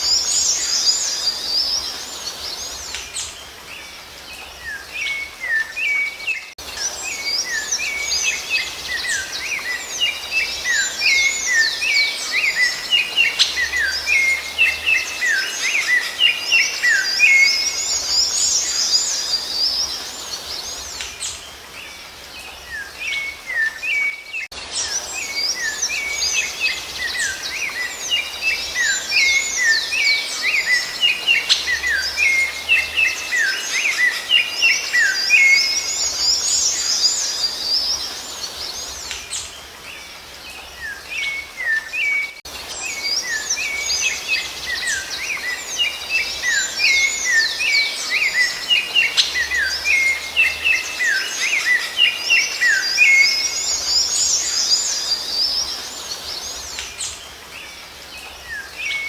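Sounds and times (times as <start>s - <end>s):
chorus of songbirds: 0.0s - 59.0s.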